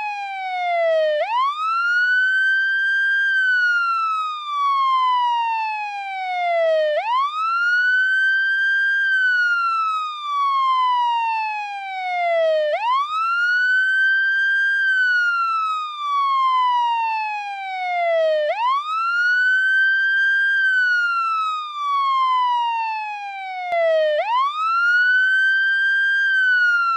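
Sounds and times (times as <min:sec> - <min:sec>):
police siren wailing: 0:00.0 - 0:26.9.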